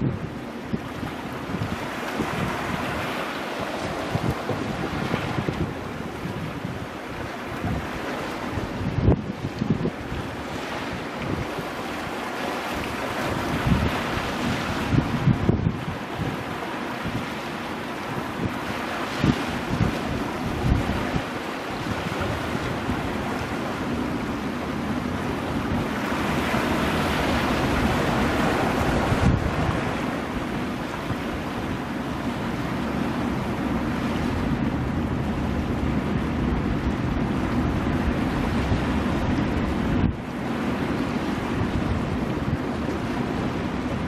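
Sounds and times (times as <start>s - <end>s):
surf washing over rocks: 0.0s - 44.0s
wind buffeting microphone: 0.0s - 44.0s.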